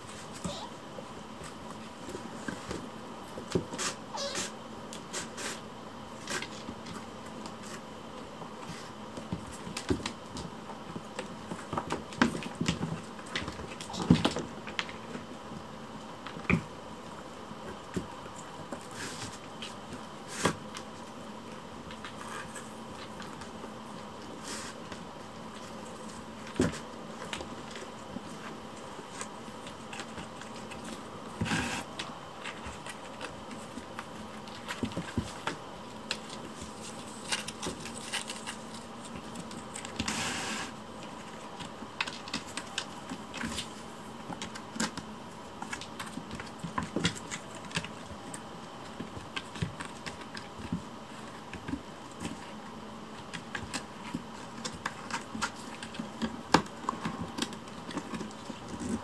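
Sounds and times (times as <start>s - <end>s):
faint room hum: 0.0s - 59.0s.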